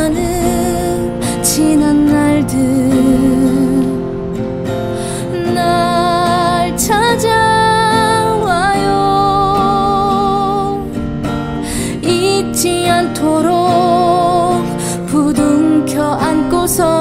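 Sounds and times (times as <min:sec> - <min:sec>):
acoustic guitar: 0:00.0 - 0:17.0
long-held wavering melody line: 0:00.0 - 0:17.0.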